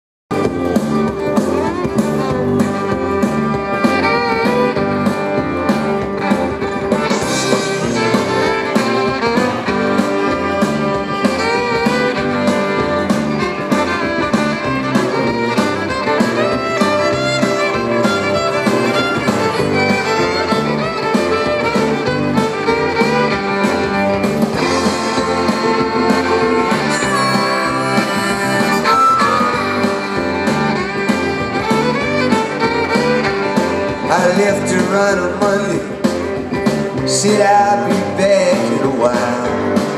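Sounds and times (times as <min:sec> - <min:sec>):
drum kit beat: 0:00.3 - 0:39.9
harmonica: 0:00.4 - 0:36.7
fiddle: 0:00.4 - 0:39.9.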